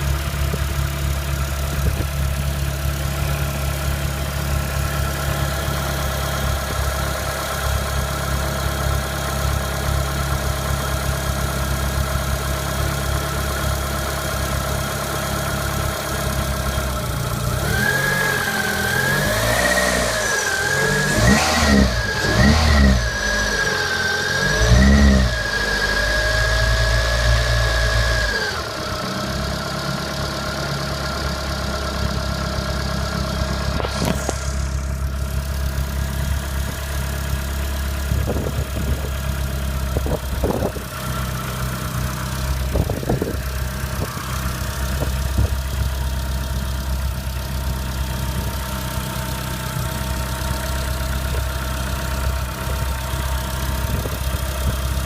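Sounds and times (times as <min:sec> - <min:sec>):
engine ticking: 0:00.0 - 0:17.9, 0:28.4 - 0:55.0
car engine revving and idling: 0:00.0 - 0:55.0.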